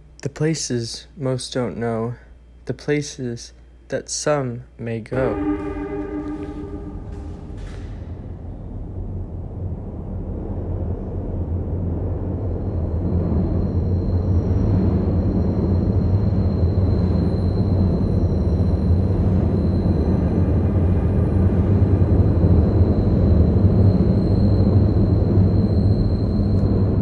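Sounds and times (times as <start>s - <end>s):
faint high whine: 0.0s - 27.0s
low rumble: 5.1s - 27.0s.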